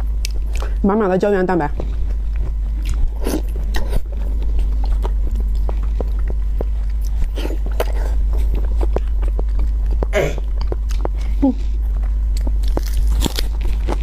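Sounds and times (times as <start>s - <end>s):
steady low hum: 0.0s - 14.0s
wet biting and chewing: 1.8s - 14.0s.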